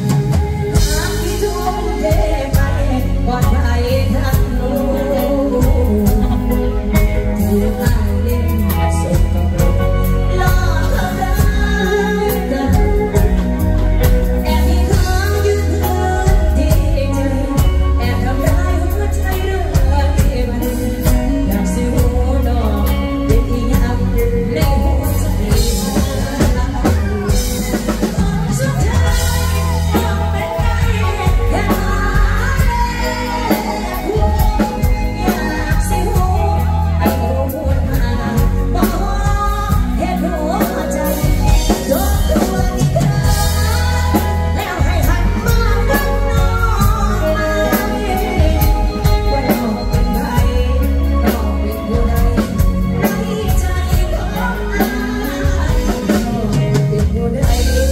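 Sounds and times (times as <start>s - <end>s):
live band playing: 0.0s - 57.9s
woman singing into a microphone: 0.0s - 57.9s.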